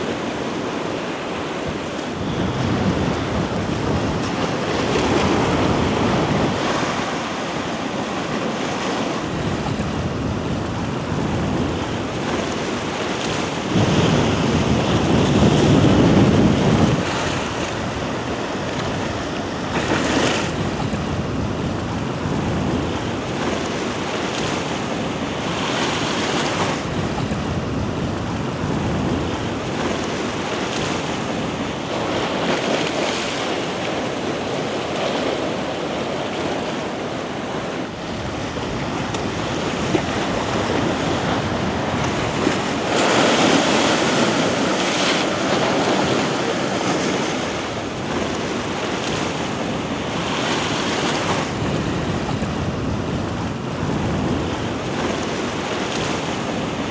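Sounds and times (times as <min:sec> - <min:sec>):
sea waves washing onto shore: 0:00.0 - 0:56.9
wind on microphone: 0:00.0 - 0:56.9.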